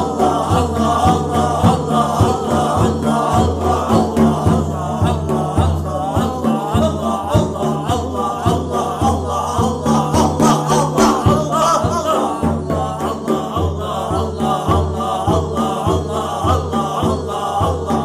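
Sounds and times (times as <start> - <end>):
group of voices chanting: 0.0 - 18.0.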